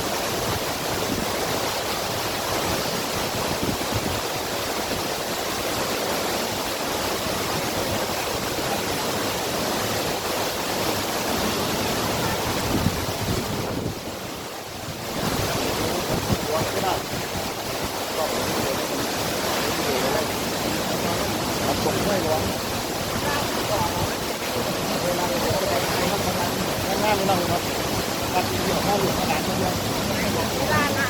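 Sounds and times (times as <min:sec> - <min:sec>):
waterfall roaring: 0:00.0 - 0:31.0.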